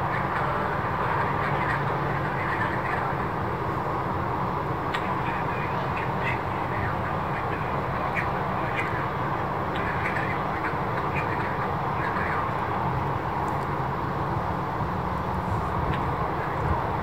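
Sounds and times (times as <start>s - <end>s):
distant engine noise: 0.0s - 17.0s
wind rumble: 0.0s - 17.0s.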